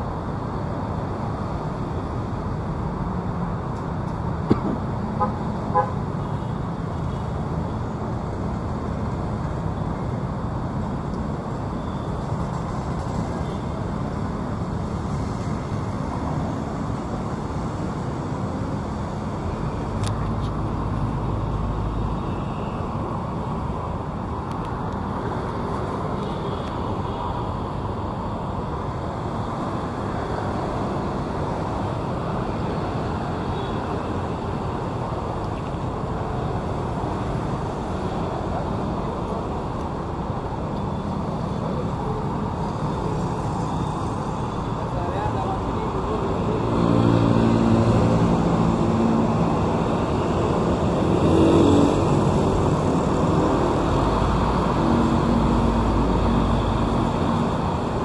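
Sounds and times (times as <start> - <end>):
city road traffic: 0.0 - 58.0.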